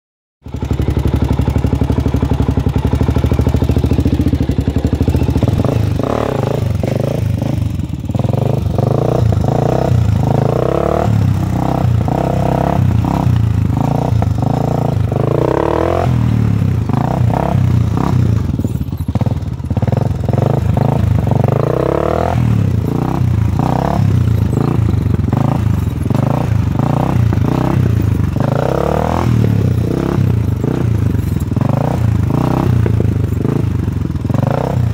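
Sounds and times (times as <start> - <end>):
quad engine revving: 0.5 - 34.9.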